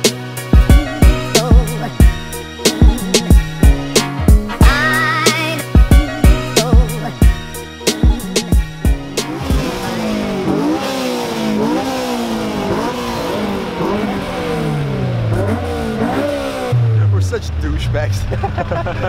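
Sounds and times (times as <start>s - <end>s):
backing music: 0.0s - 12.9s, 14.5s - 19.0s
car engine revving: 0.0s - 19.0s.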